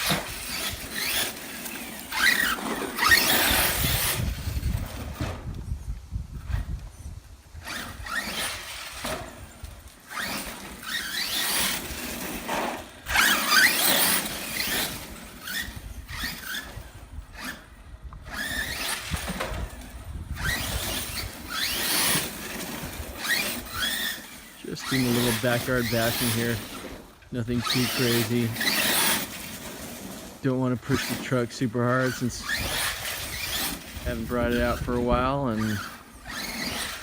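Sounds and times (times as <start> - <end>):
electric motor whining: 0.0 - 37.0
tyre and drivetrain noise: 0.0 - 37.0.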